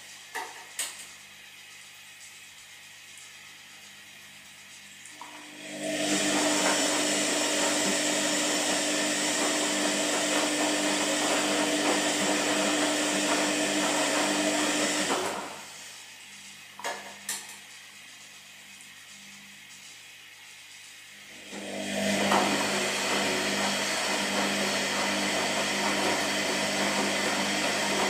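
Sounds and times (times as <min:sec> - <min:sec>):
washing machine whirring: 0:00.0 - 0:28.0.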